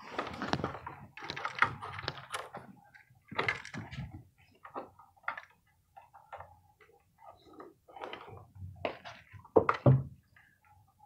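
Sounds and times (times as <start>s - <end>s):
clicks and rustles of handled wire: 0.0s - 9.8s.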